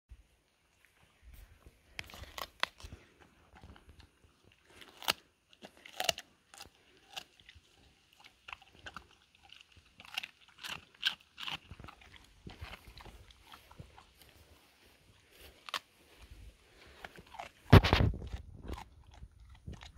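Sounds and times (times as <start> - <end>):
dog chewing watermelon crunches: 1.9 - 19.9.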